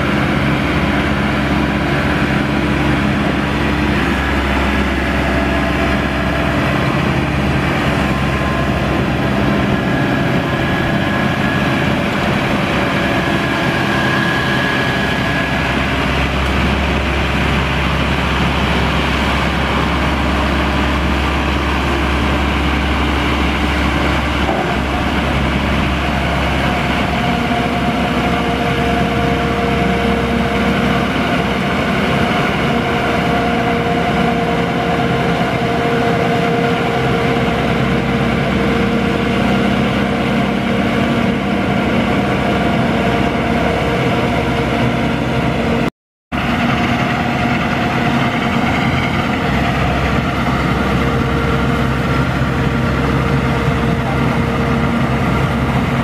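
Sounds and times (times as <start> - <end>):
tiller engine running: 0.0 - 56.0.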